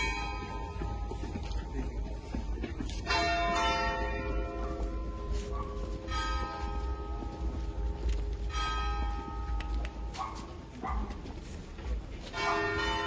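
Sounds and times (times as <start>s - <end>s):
church bell tolling: 0.0s - 10.6s, 12.3s - 13.0s.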